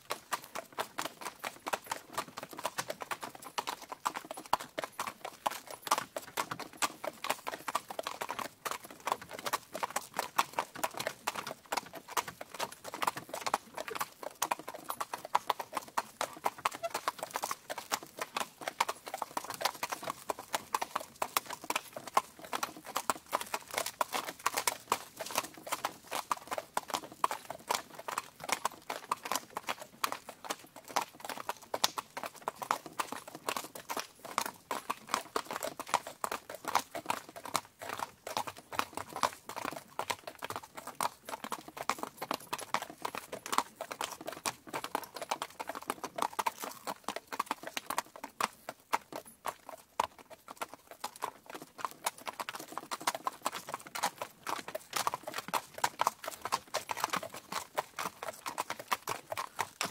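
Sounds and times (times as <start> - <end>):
hooves clip-clopping: 0.0 - 59.9.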